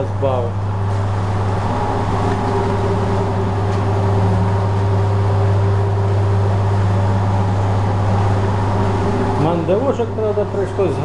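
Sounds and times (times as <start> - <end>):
machine hum with low drone: 0.0 - 11.0.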